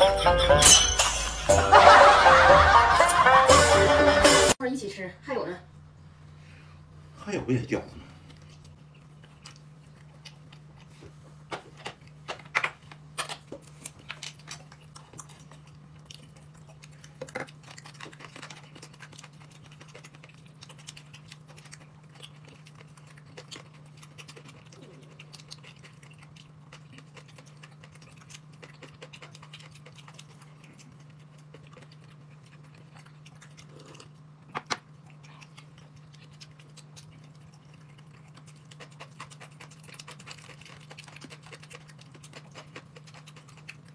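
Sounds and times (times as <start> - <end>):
steady low hum: 0.0 - 43.9
chewing: 8.0 - 43.9.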